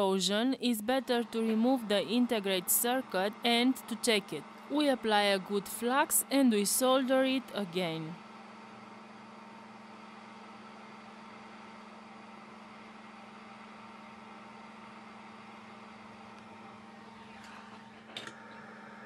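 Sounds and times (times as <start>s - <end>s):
bench equipment humming: 0.0s - 19.0s.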